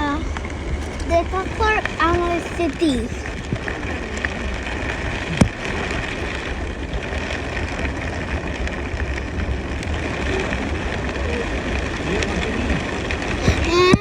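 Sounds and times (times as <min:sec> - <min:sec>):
deep low rumble: 0:00.0 - 0:14.0
heavy rain: 0:00.0 - 0:14.0
wind: 0:00.0 - 0:14.0.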